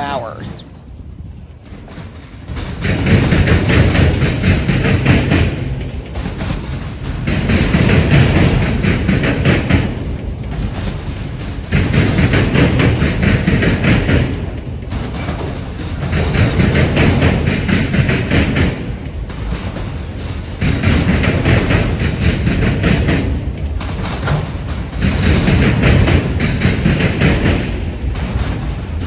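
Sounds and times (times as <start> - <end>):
train wheels clattering: 0.8 - 29.0.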